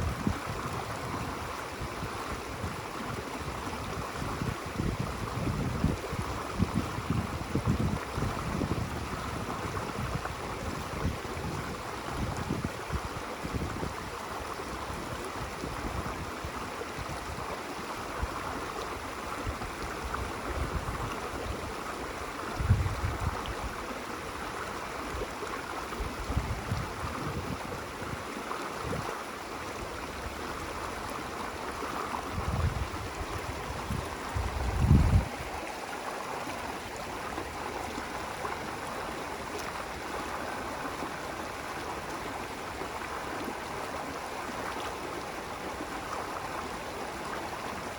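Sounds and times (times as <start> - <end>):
running water rushing: 0.0 - 47.9.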